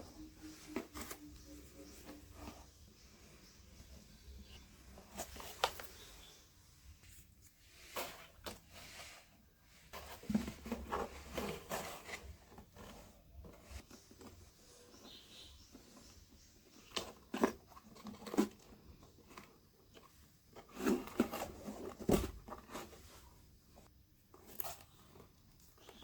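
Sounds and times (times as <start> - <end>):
cardboard rustling and scraping: 0.2 - 6.2, 7.0 - 26.0.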